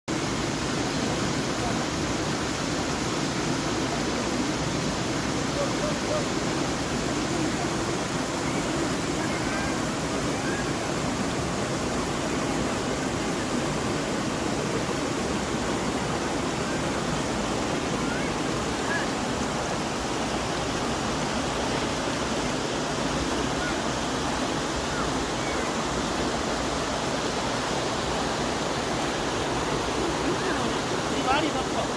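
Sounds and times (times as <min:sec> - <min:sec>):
water running over stones: 0:00.1 - 0:31.9.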